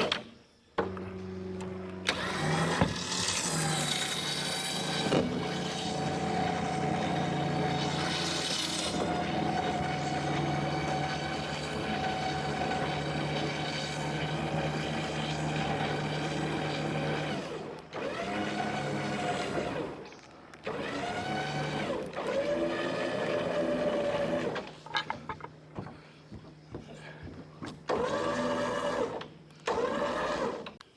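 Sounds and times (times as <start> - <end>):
engine running under load: 0.8 - 30.7.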